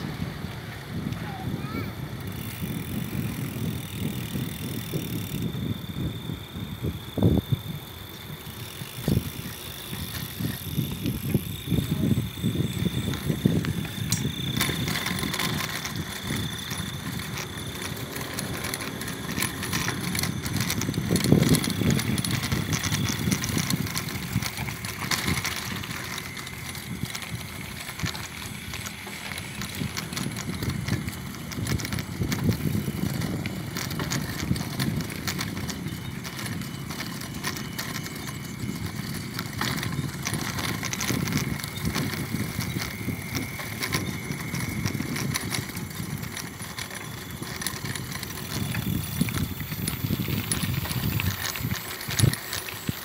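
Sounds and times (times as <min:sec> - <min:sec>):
bicycle tyres rumbling on road: 0:00.0 - 0:53.0
wind on microphone: 0:00.0 - 0:53.0
small clicks and rattles: 0:01.0 - 0:53.0.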